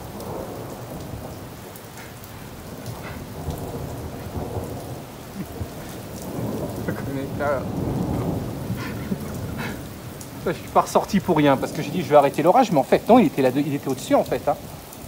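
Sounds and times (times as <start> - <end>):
low thunder rumbling: 0.0 - 15.0
raindrop ticks: 0.0 - 15.0
steady rain: 0.0 - 15.0.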